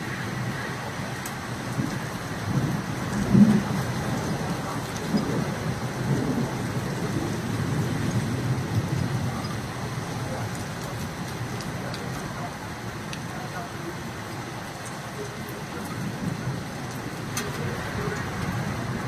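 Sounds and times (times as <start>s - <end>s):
heavy rain falling: 0.0s - 19.0s
thunder rumbling: 0.0s - 19.0s.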